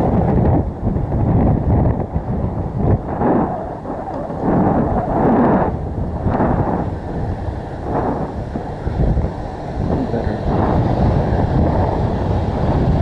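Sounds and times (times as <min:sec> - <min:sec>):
skate wheels rumbling on asphalt: 0:00.0 - 0:13.0
wind buffeting microphone: 0:00.0 - 0:13.0.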